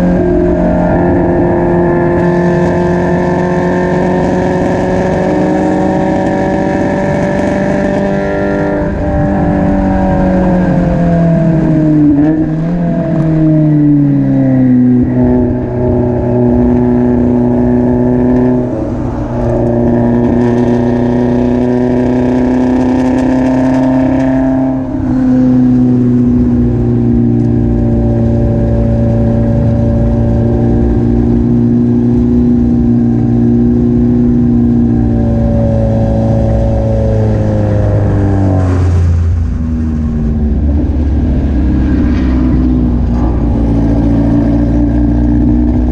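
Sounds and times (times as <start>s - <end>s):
race car engine exhaust: 0.0s - 45.9s.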